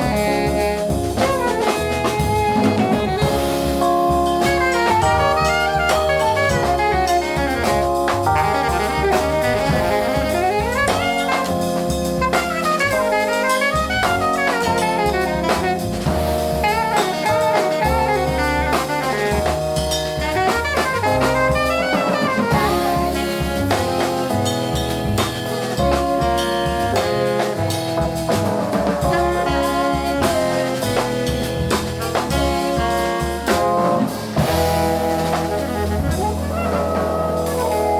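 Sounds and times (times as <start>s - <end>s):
alto saxophone: 0.0s - 37.9s
double bass: 0.0s - 37.9s
drum kit: 0.0s - 37.9s.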